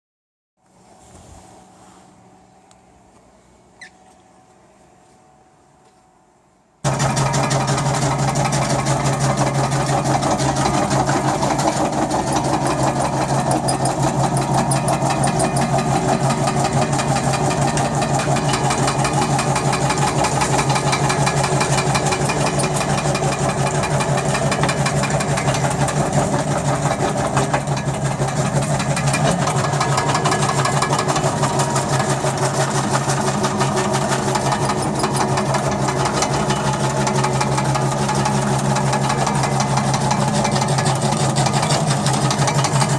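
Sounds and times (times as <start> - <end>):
floor stripper machine rattling: 6.8 - 42.9.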